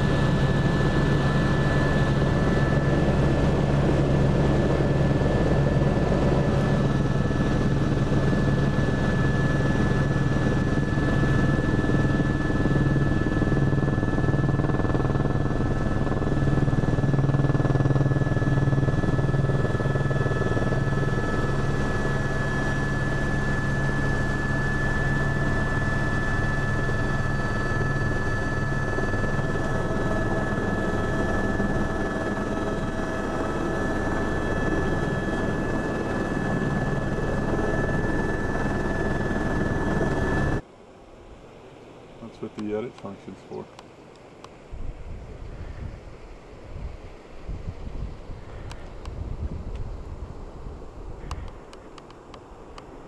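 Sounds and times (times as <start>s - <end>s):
helicopter turbine whine: 0.0s - 53.0s.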